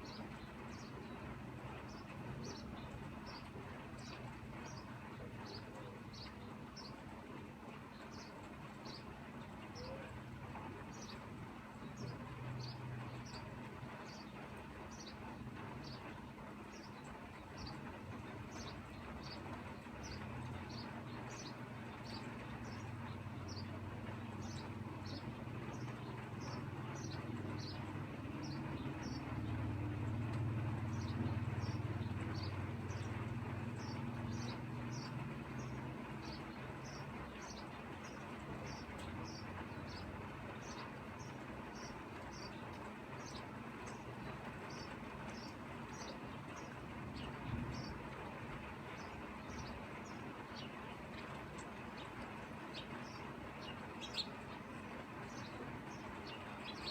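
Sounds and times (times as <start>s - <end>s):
light rain hiss: 0.0s - 56.9s.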